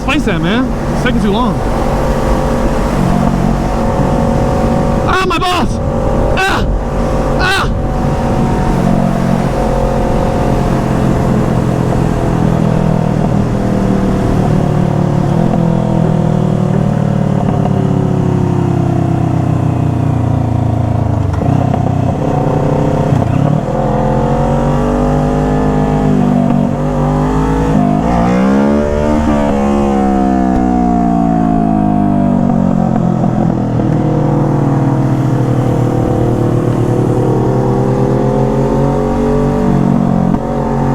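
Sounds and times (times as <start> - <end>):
vehicle engines revving: 0.0 - 40.9.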